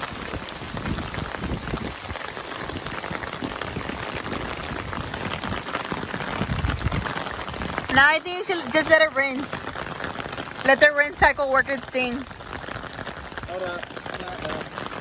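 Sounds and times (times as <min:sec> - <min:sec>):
heavy rain drumming on umbrella: 0:00.0 - 0:15.0.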